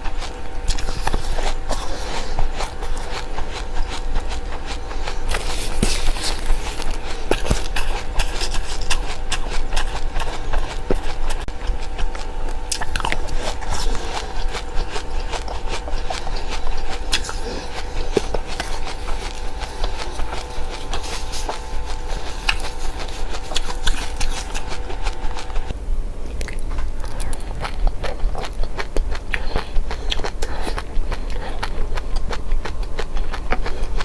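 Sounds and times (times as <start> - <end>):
chewing and crunching seeds: 0.0 - 34.0.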